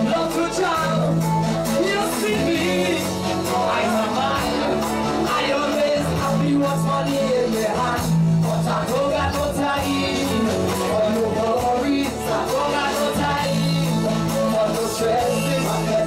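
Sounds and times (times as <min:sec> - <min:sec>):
bass notes: 0:00.0 - 0:16.0
electric guitars: 0:00.0 - 0:16.0
keyboards: 0:00.0 - 0:16.0
man singing: 0:00.0 - 0:16.0.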